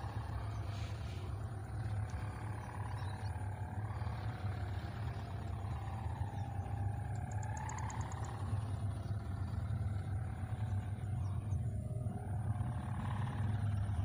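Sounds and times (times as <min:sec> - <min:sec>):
faint wavering hum: 0:00.0 - 0:14.0.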